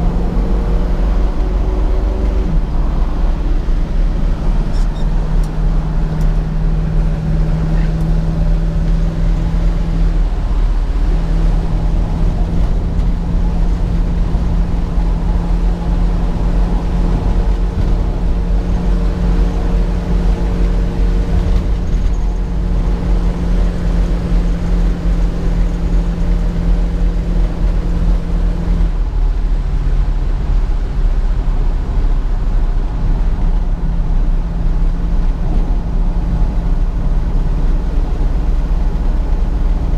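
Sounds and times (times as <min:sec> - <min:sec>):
car engine cruising: 0:00.0 - 0:39.9
road rumble: 0:00.0 - 0:39.9.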